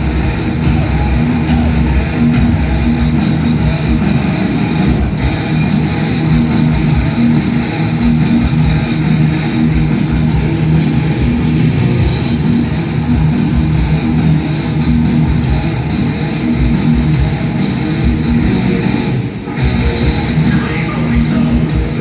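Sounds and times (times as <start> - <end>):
bass guitar: 0.0 - 22.0
distorted electric guitars: 0.0 - 22.0
pounding drums: 0.0 - 22.0.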